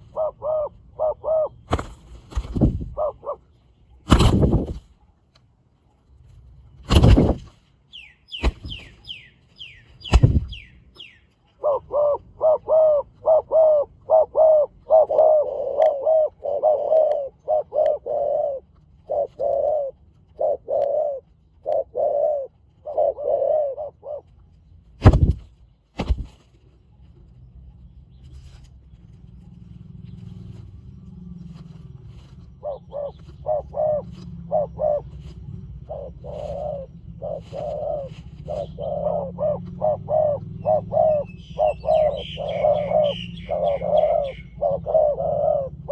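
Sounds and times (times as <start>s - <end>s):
doves cooing: 0.0s - 4.9s, 6.9s - 7.5s, 10.0s - 24.4s, 28.4s - 45.9s.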